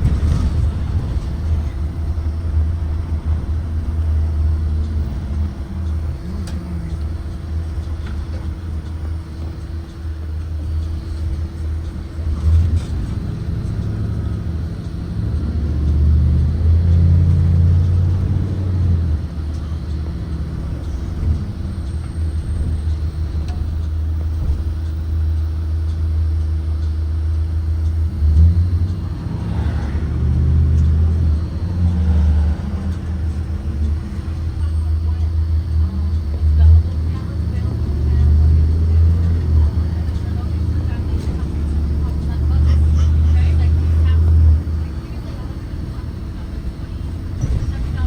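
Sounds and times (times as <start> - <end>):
bus engine and road rumble: 0.0 - 48.0
steady hum: 0.0 - 48.0.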